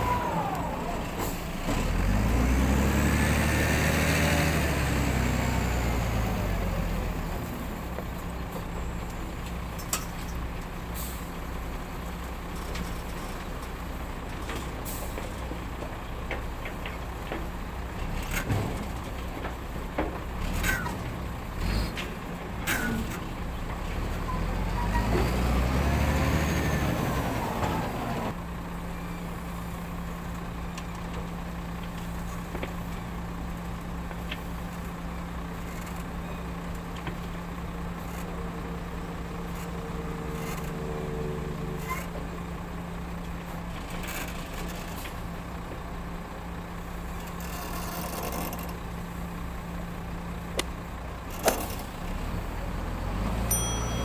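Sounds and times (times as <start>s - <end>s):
diesel loader engine: 0.0s - 54.0s.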